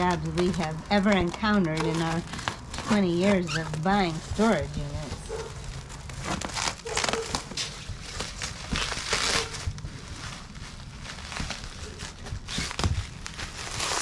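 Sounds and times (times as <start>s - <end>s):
packing wrap crinkling and tearing: 0.0s - 14.0s.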